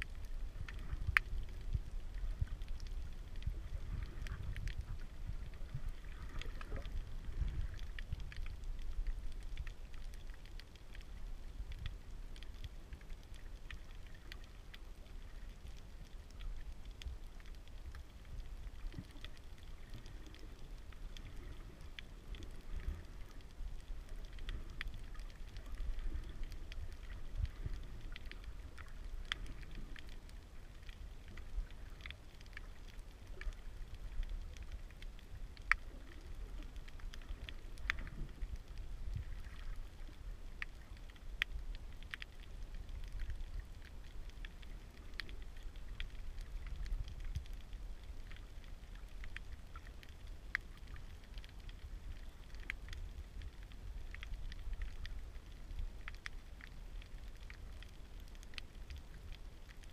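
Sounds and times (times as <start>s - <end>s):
low rumble of water movement: 0.0s - 59.9s
sharp underwater clicks: 0.0s - 59.9s.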